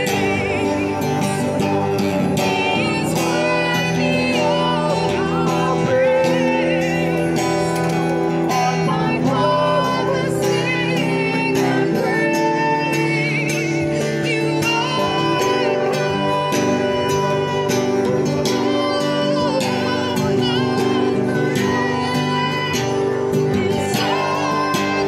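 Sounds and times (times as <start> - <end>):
person singing long notes: 0.0 - 25.0
strummed acoustic guitar: 0.0 - 25.0.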